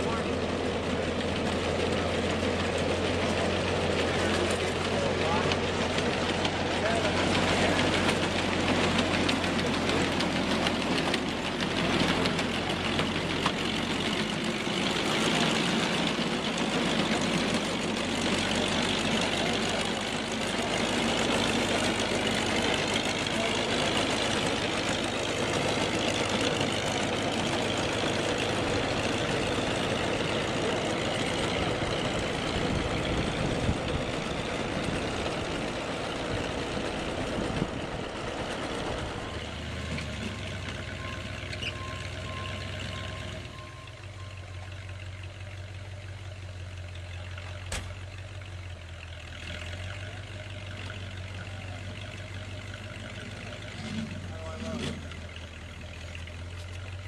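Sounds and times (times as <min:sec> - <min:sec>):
heavy vehicle engine running: 0:00.0 - 0:57.0.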